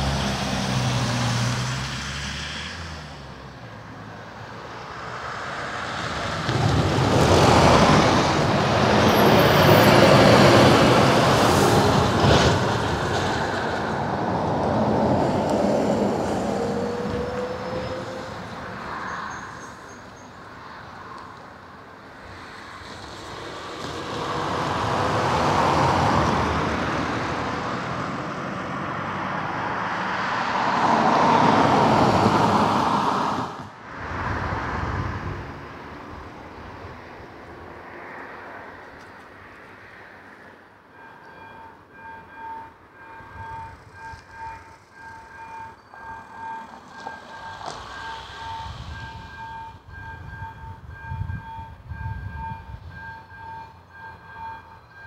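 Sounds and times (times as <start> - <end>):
vehicles crossing railway crossing: 0.0 - 55.0.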